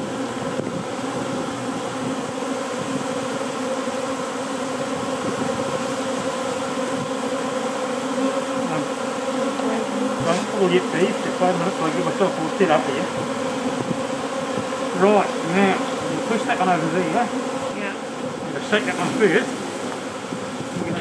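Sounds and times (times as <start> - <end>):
bee swarm buzzing: 0.0 - 21.0.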